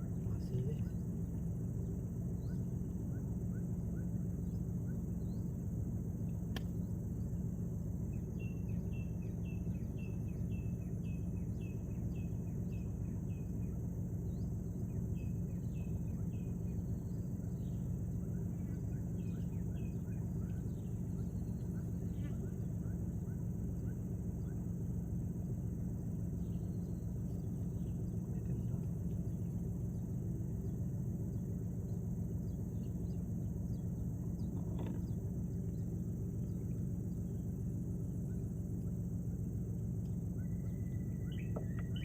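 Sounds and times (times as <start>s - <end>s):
high insect drone: 0.0s - 42.0s
steady low hum: 0.0s - 42.0s.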